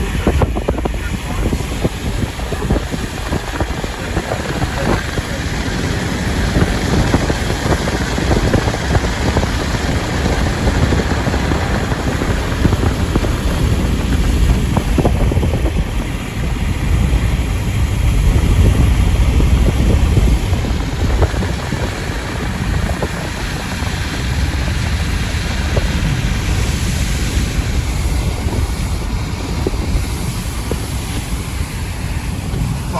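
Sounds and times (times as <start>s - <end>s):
gusty wind buffeting microphone: 0.0s - 32.9s.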